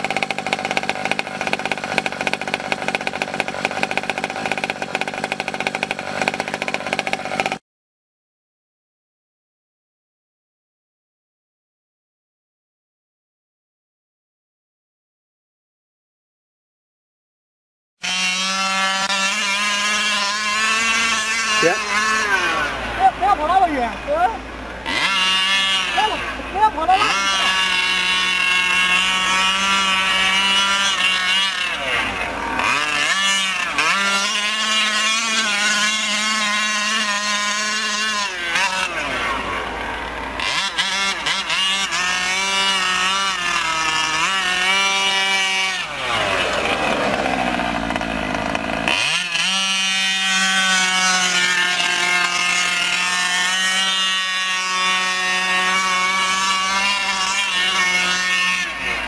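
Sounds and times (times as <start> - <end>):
small two-stroke engine revving: 0.0 - 7.6, 18.0 - 59.0.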